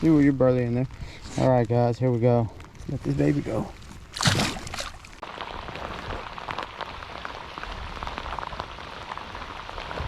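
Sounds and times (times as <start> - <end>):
rain drops ticking: 0.0 - 4.1, 4.9 - 10.0.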